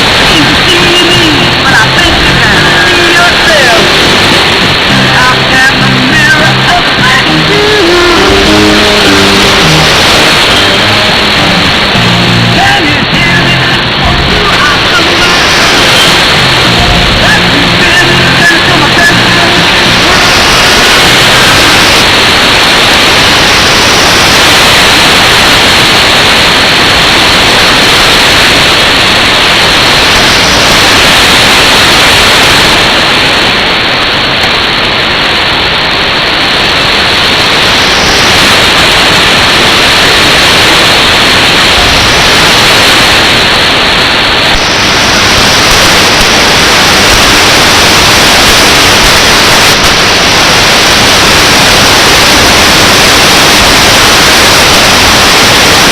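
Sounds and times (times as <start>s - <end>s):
shortwave radio static and hiss: 0.0s - 55.9s.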